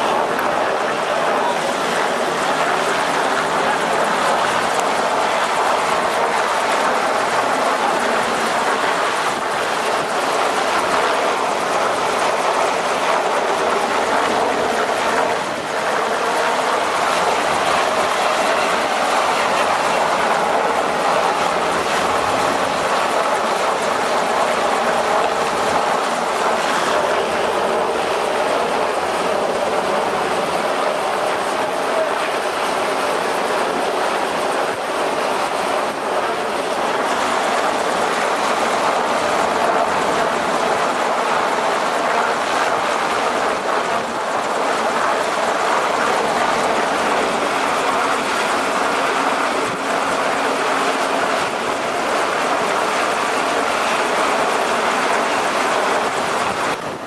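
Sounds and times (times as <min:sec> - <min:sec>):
helicopter rotor and engine roar: 0:00.0 - 0:57.0.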